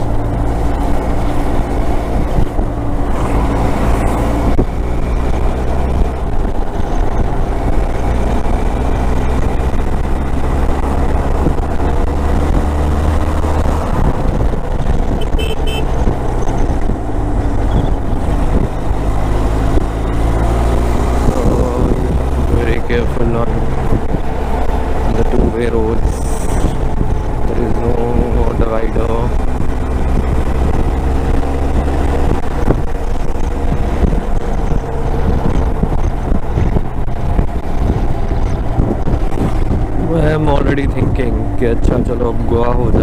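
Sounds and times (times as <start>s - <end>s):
wind and road noise: 0.0s - 43.0s.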